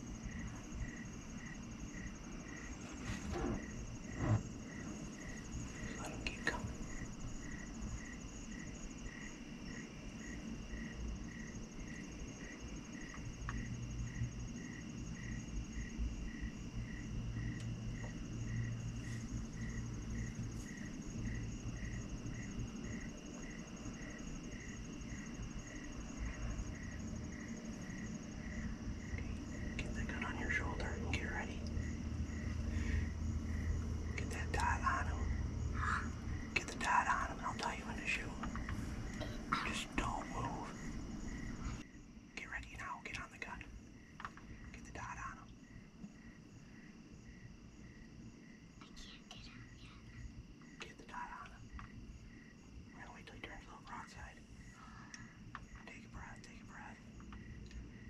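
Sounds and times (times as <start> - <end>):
cricket chirping: 0.0 - 58.0
high insect trill: 0.0 - 58.0.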